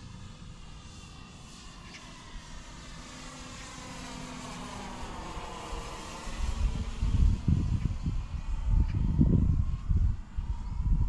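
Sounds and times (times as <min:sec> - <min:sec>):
model airplane motor flying past: 0:00.0 - 0:11.0.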